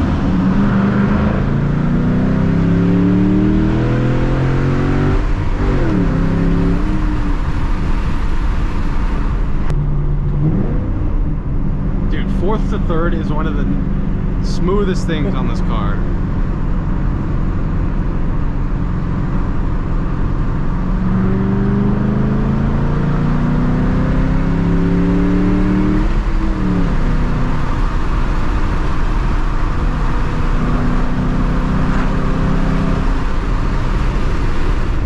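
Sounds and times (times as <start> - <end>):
car engine accelerating: 0.0 - 35.0
road noise: 0.0 - 35.0.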